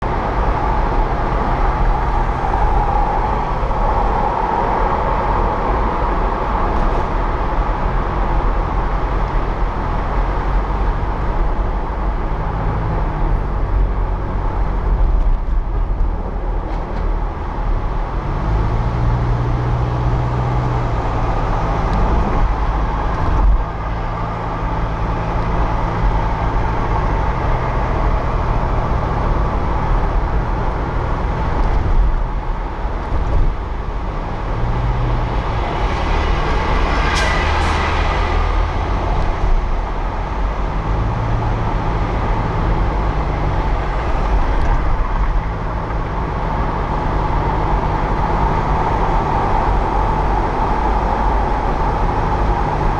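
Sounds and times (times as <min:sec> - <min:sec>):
car road and engine noise: 0:00.0 - 0:52.9.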